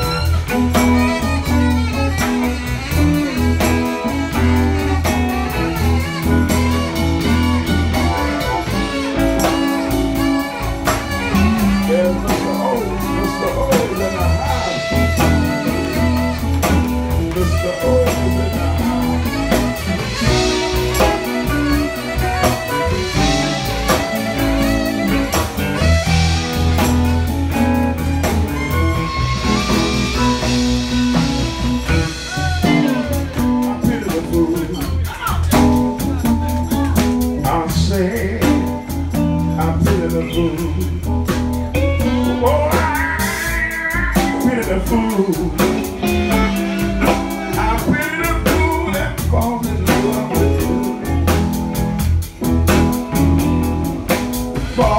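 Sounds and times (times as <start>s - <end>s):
bass guitar: 0.0s - 54.9s
drum kit steady beat: 0.0s - 54.9s
electric guitar bending notes: 0.0s - 54.9s.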